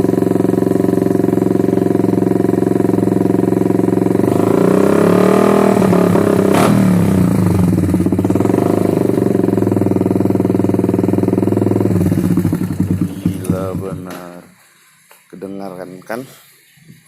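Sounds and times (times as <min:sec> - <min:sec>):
motorcycle engine revving: 0:00.0 - 0:14.6
sharp exhaust crack: 0:00.0 - 0:15.8.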